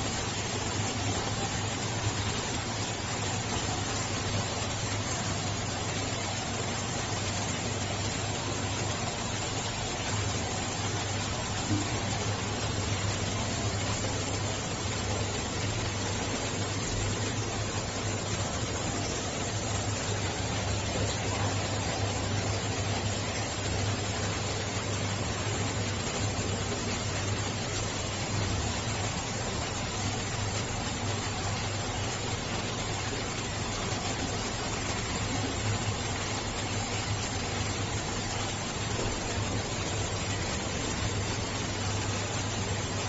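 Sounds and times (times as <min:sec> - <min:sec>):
aquarium bubbling: 0:00.0 - 0:43.0
low pump hum: 0:00.0 - 0:43.0.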